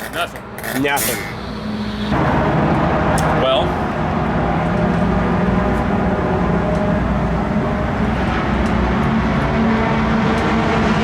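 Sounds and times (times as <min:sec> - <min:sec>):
race car engines: 0:00.1 - 0:11.0.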